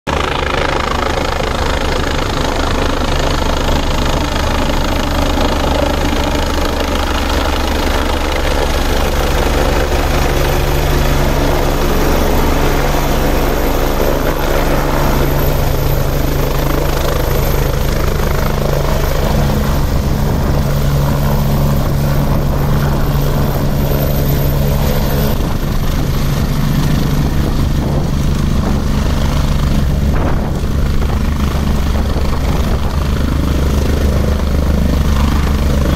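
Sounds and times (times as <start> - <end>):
helicopter rotor and turbines: 0.1 - 35.9.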